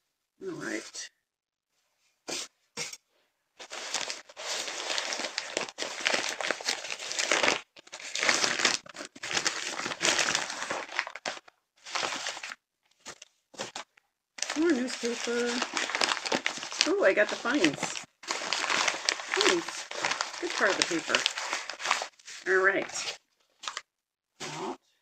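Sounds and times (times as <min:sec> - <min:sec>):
newspaper crinkling and rustling: 0:03.6 - 0:23.9.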